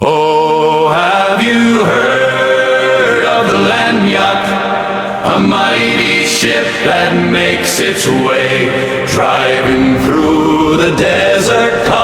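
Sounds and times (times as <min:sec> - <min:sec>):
choir singing long held notes: 0:00.0 - 0:12.0.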